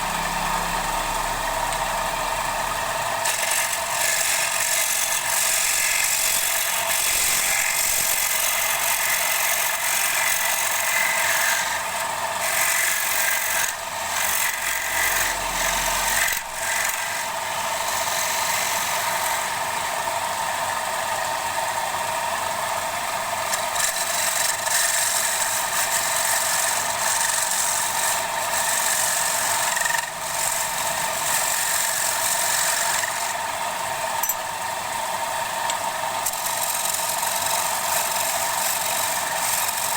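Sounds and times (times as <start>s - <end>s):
wood lathe scraping wood: 0.0s - 39.9s.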